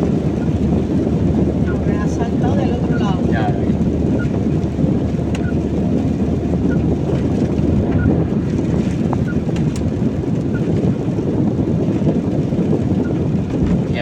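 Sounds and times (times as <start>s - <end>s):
engine and tyres on wet road: 0.0s - 14.0s.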